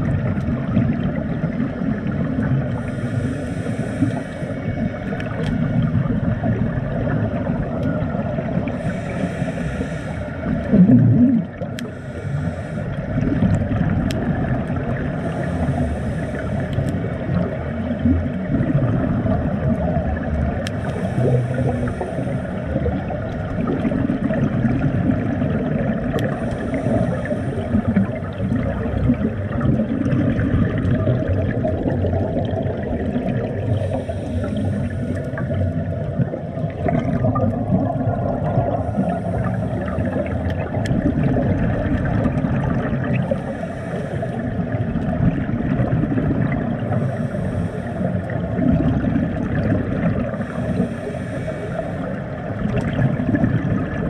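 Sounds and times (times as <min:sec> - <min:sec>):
muffled underwater noise: 0:00.0 - 0:54.0.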